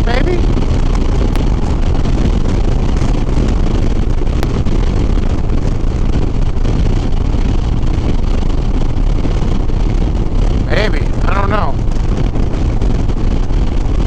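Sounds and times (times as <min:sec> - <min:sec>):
motorcycle engine cruising: 0:00.0 - 0:14.0
wind rushing over microphone: 0:00.0 - 0:14.0.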